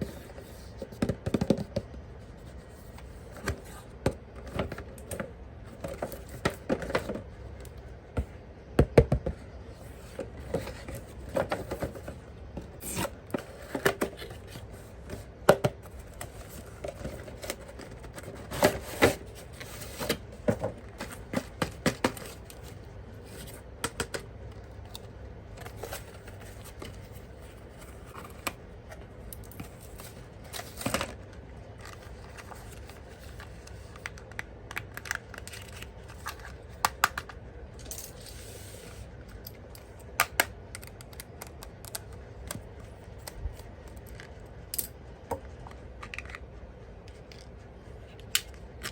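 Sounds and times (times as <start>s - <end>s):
hands handling objects: 9.3s - 48.9s.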